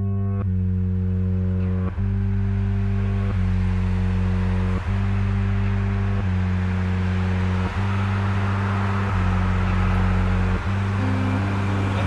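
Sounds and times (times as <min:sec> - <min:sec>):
low droning bass tones: 0:00.0 - 0:12.0.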